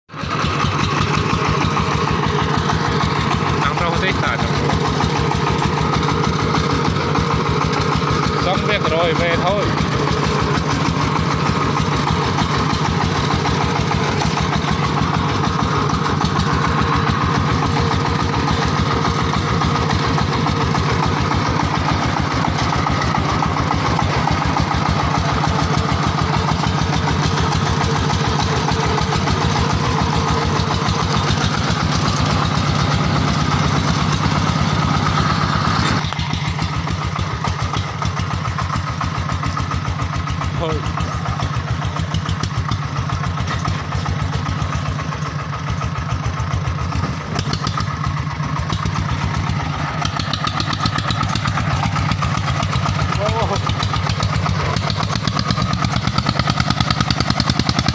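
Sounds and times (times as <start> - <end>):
diesel tractor engine chugging: 0.0 - 57.9.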